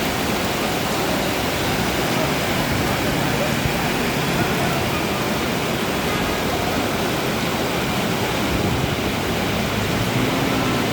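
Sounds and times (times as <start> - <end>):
rain pouring: 0.0 - 10.9.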